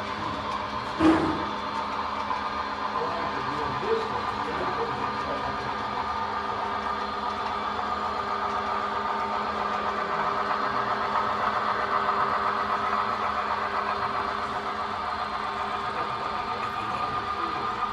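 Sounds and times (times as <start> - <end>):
diesel locomotive running: 0.0 - 17.9.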